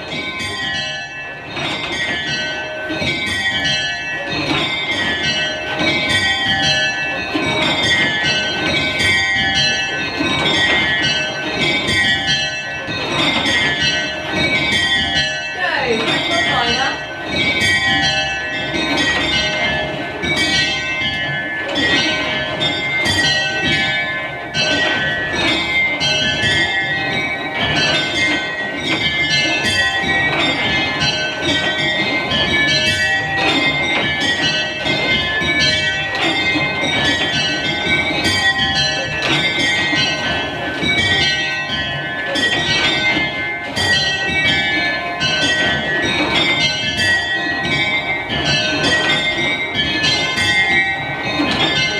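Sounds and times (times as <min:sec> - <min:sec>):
small tower bells ringing changes: 0:00.0 - 0:51.9.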